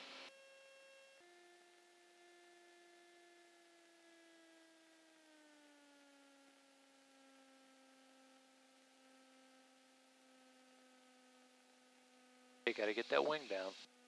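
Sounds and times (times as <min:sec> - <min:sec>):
faint electrical whine: 0:00.0 - 0:14.0.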